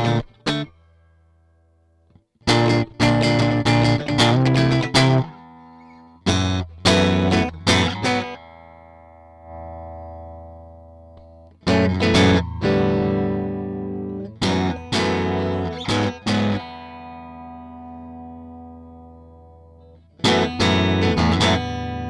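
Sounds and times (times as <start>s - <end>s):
overdriven electric guitar chords: 2.5s - 22.0s.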